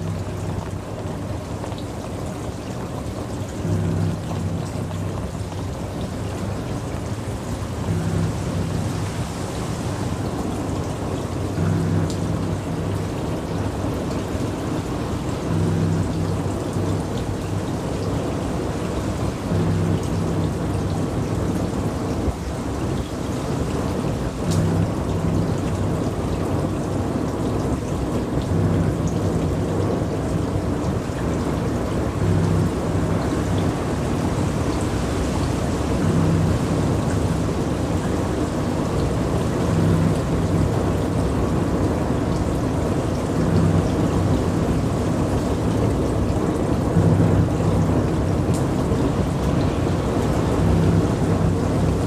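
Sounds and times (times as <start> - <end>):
ambient electronic noise music: 0.0 - 52.0.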